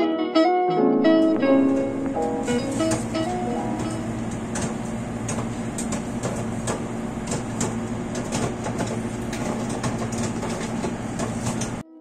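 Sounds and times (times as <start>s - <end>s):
microwave oven humming: 1.3s - 11.8s
microwave clicks: 1.4s - 11.8s.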